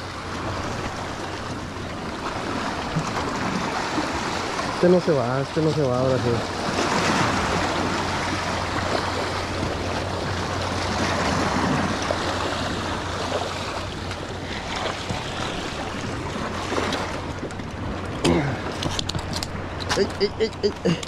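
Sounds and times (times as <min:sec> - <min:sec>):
waves washing against rocks: 0:00.0 - 0:21.0
wind buffeting microphone: 0:00.0 - 0:21.0.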